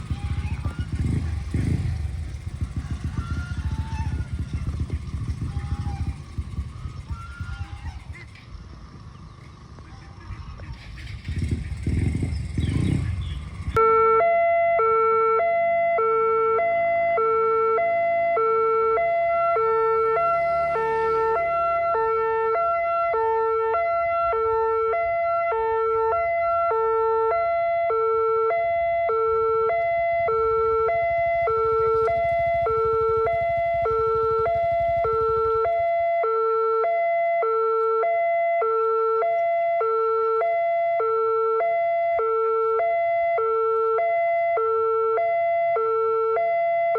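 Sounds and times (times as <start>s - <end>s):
level crossing alarm two-tone siren: 0.0s - 7.8s, 13.7s - 46.9s.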